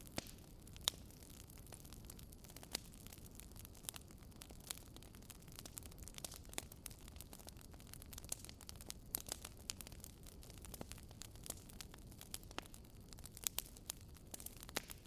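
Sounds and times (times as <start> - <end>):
logs crackling and popping: 0.0 - 15.0
low rumble of fire: 0.0 - 15.0.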